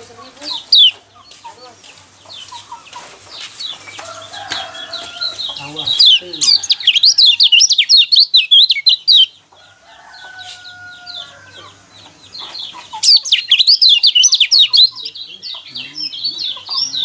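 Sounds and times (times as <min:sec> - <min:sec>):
bird singing chattering song: 0:00.0 - 0:17.0.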